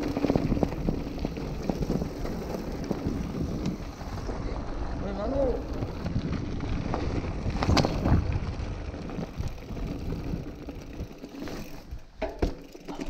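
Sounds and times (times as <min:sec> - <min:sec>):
wind on camera: 0:00.0 - 0:11.1
mountain bike rolling: 0:00.0 - 0:13.0.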